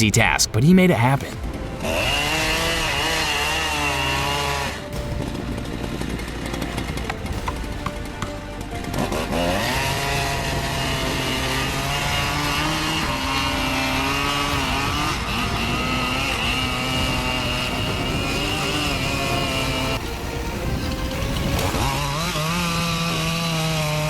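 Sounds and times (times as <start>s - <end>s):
chainsaw revving: 1.3s - 24.0s.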